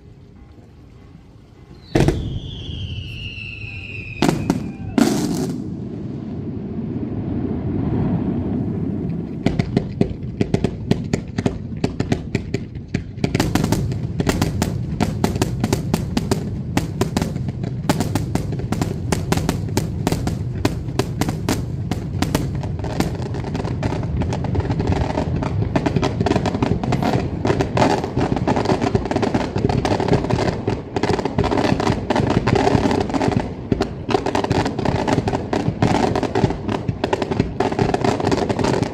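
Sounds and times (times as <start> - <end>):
fireworks cracks and bangs: 1.7 - 38.9.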